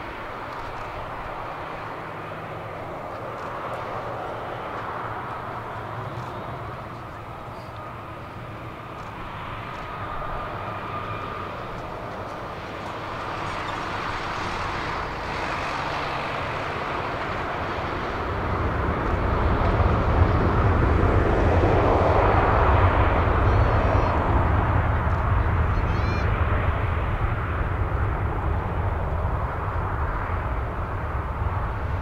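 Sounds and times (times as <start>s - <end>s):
deep rumble of engines spooling up: 0.0s - 32.0s
jet engines running: 0.0s - 32.0s.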